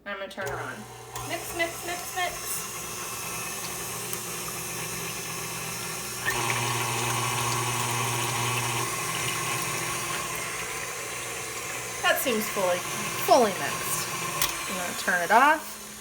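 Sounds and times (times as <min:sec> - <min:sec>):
beater churning liquid batter: 0:00.4 - 0:16.0
stand mixer motor hum: 0:00.4 - 0:16.0.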